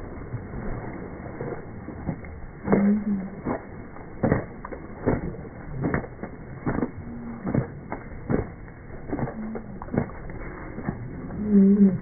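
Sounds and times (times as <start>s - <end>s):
slowed whooshing splashes: 0.0s - 12.0s.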